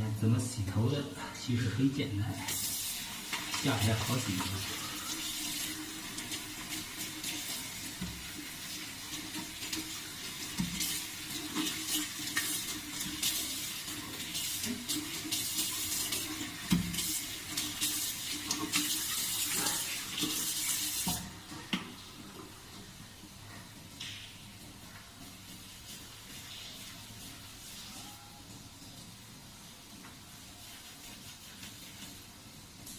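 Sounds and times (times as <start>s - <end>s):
running water splashing: 0.5s - 32.9s.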